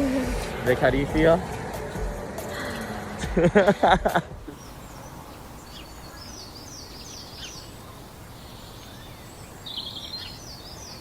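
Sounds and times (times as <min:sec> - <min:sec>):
low outdoor background noise: 0:00.0 - 0:11.0
small birds chirping: 0:00.0 - 0:11.0.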